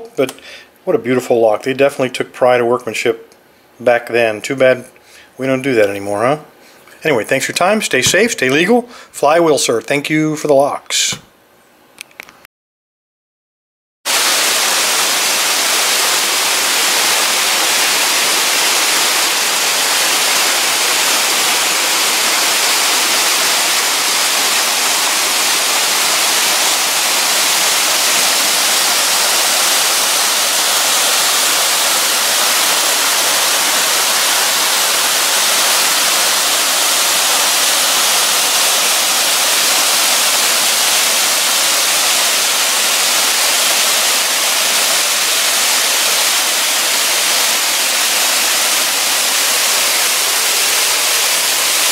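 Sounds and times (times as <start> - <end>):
steady static hiss: 0.0 - 12.4, 14.1 - 51.9.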